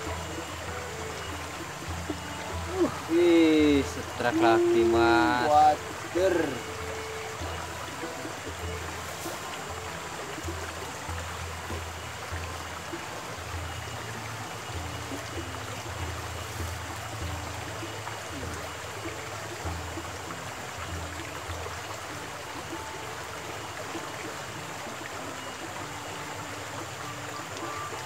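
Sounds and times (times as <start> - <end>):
mountain stream flowing: 0.0 - 28.0.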